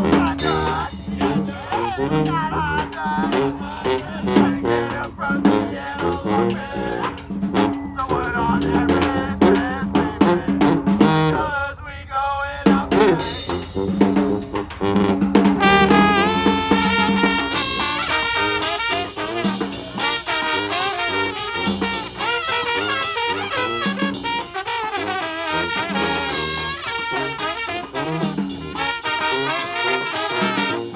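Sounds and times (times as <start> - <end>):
brass band horns: 0.0 - 30.9
drums: 0.0 - 30.9.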